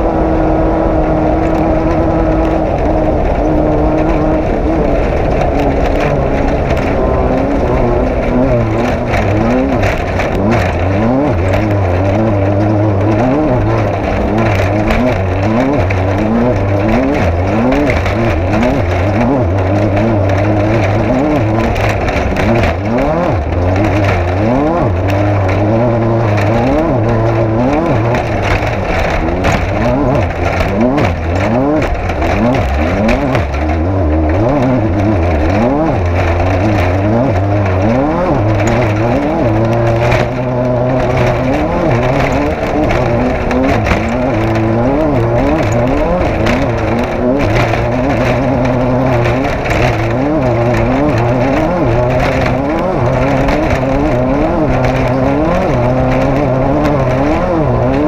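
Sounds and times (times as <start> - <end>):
clatter of knocks and rattles: 0.0 - 58.0
race vehicle engine revving: 0.0 - 58.0.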